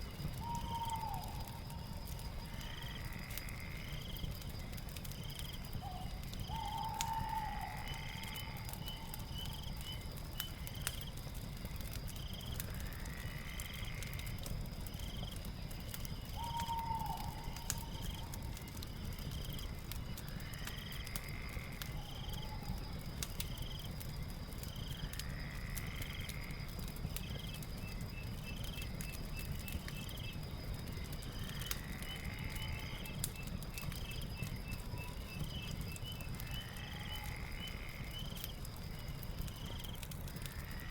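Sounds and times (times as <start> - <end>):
fireplace crackling: 0.0 - 40.9
insects chirping: 0.0 - 40.9.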